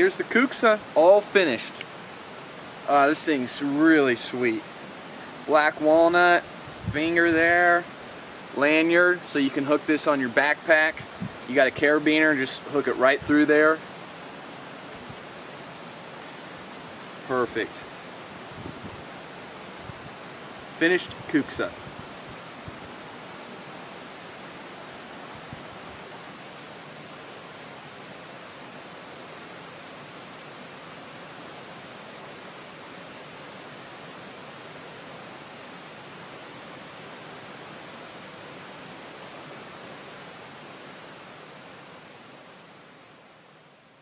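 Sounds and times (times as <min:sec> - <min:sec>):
steady rushing hiss: 0:00.0 - 0:44.0.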